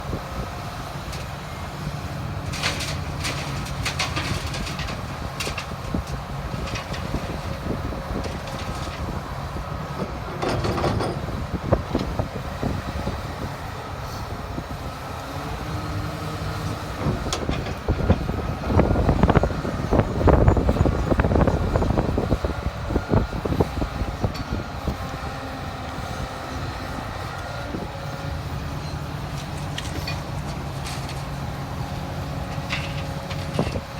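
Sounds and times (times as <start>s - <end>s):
excavator diesel engine running: 0.0s - 33.9s
excavator clanks and rattles: 0.1s - 33.9s.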